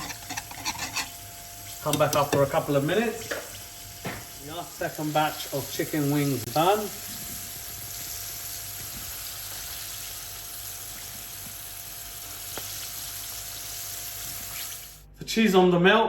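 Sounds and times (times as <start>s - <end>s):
food frying sizzle: 0.0s - 15.0s.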